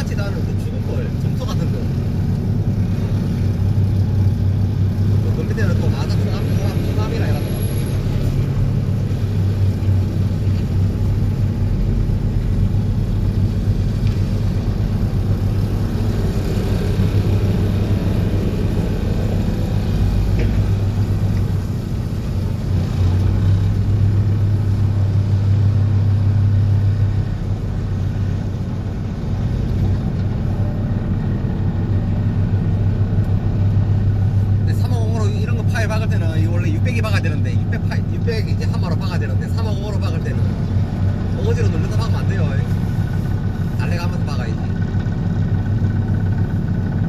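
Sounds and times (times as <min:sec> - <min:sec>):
excavator engine: 0:00.0 - 0:47.0.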